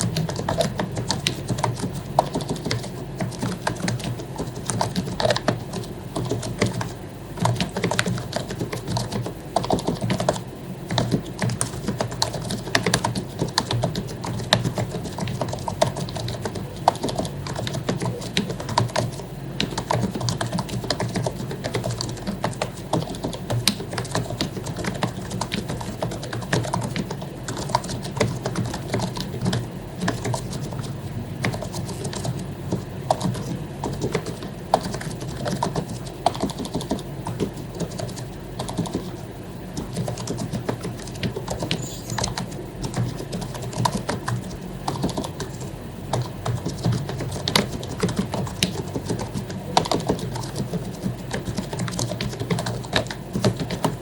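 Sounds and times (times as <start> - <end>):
soft keyboard typing: 0.0 - 54.0.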